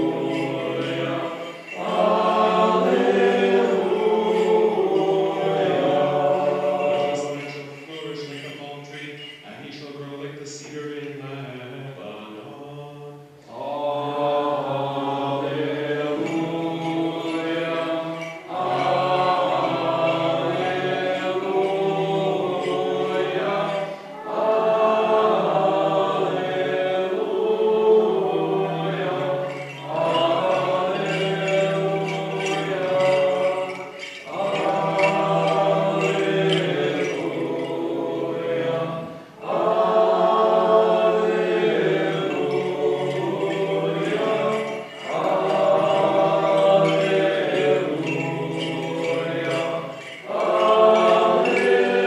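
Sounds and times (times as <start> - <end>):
group singing a liturgical chant: 0.0 - 52.0.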